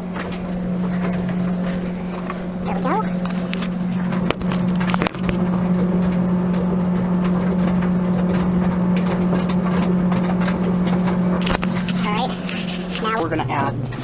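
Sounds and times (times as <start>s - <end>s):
laundry machine motor hum: 0.0s - 13.3s.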